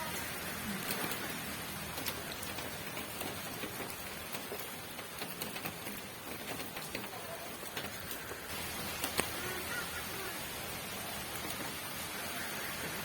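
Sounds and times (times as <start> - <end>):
rain hissing: 0.0 - 13.0
raindrops ticking on a surface: 0.0 - 13.0.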